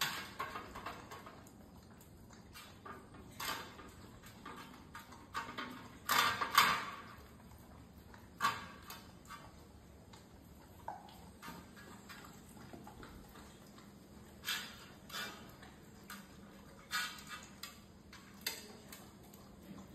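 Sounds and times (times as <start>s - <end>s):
dog eating from metal plate: 0.0s - 19.9s.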